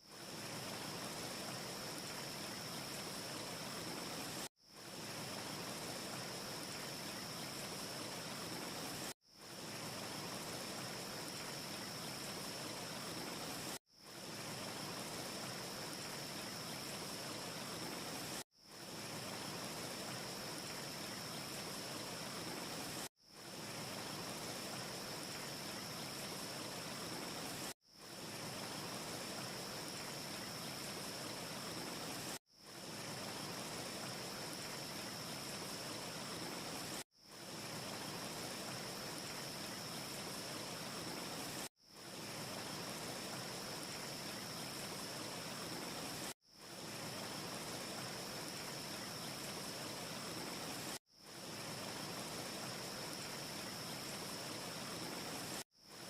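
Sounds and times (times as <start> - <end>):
steady wind hiss: 0.0 - 56.0.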